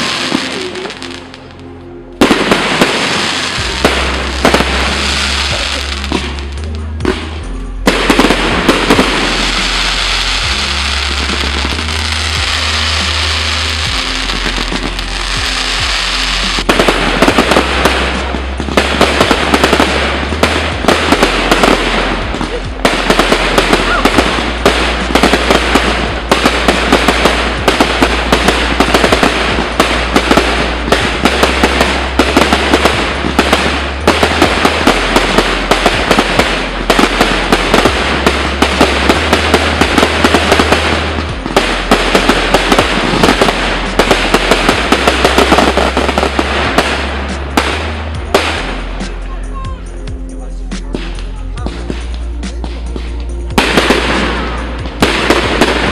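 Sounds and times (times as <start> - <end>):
fireworks crackling: 0.0 - 55.9
fireworks shells bursting: 2.2 - 49.3, 50.8 - 55.9.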